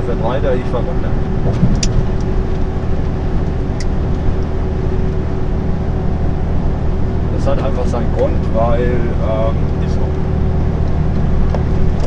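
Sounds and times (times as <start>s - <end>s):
constant hum: 0.0s - 12.0s
lorry engine drone: 0.0s - 12.0s
road noise: 0.0s - 12.0s.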